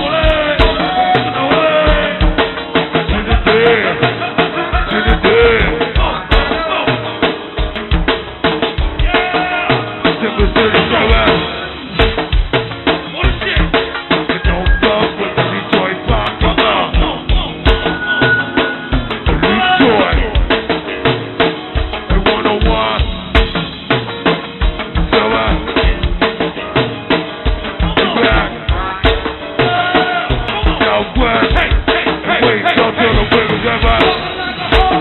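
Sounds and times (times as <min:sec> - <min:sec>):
drum kit groove: 0:00.0 - 0:35.0
live band playing: 0:00.0 - 0:35.0.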